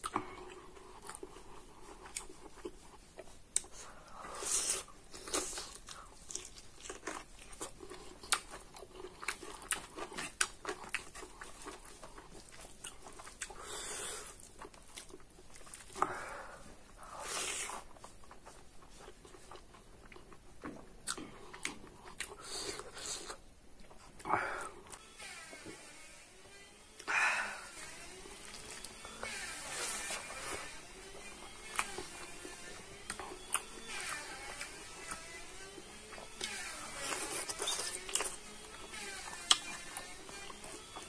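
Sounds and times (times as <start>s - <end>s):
crunching and wet chewing: 0.0s - 16.1s, 17.2s - 25.0s, 28.3s - 29.1s, 29.7s - 41.0s.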